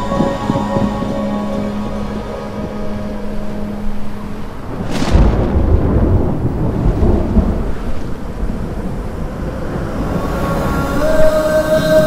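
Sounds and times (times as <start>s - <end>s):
thunder crack and rumble: 0.0s - 11.3s.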